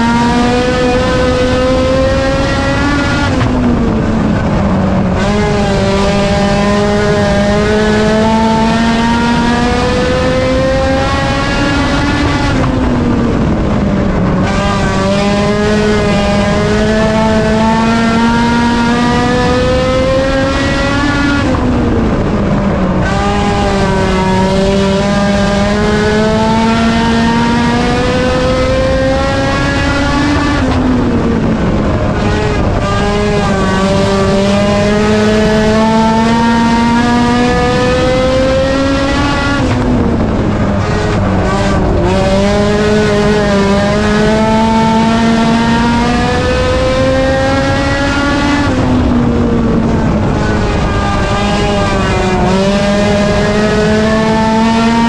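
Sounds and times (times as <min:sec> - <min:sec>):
race car engine at high revs: 0:00.0 - 0:55.0.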